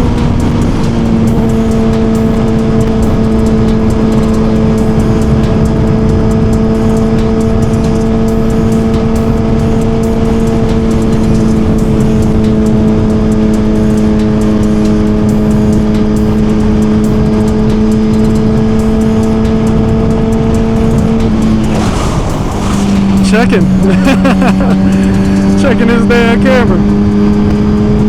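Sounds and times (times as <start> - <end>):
wind rush on microphone: 0.0 - 25.6
motorcycle engine cruising: 0.0 - 28.0.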